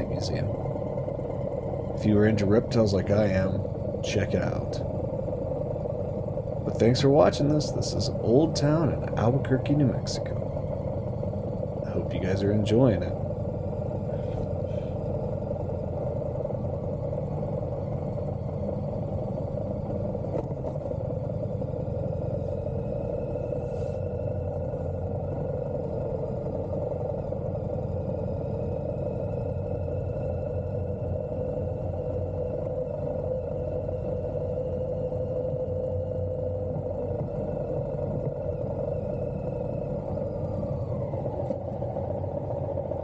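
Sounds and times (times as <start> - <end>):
motorcycle engine rumbling: 0.0 - 43.0.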